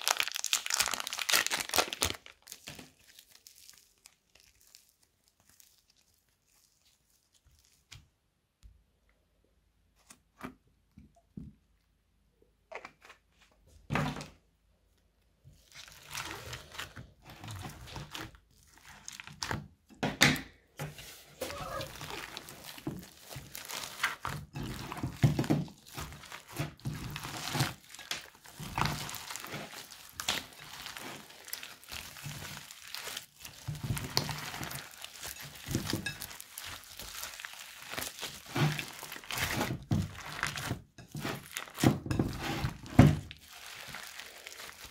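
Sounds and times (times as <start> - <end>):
slime crackling and squelching: 0.0 - 9.0, 15.0 - 19.9, 20.9 - 44.9.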